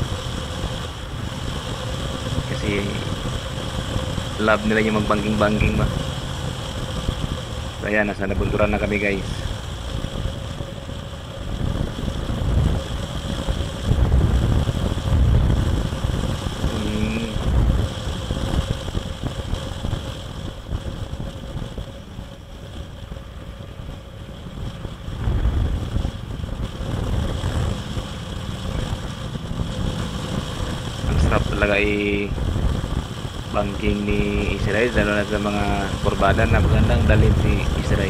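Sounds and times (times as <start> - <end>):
motorcycle running: 0.0 - 38.0
wind buffeting microphone: 0.0 - 38.0.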